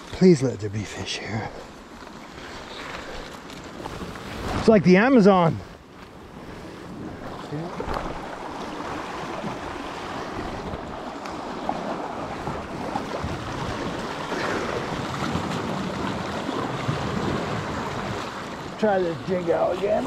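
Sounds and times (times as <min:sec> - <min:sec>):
surf washing against shore: 0:00.0 - 0:20.0
wind: 0:00.0 - 0:20.0.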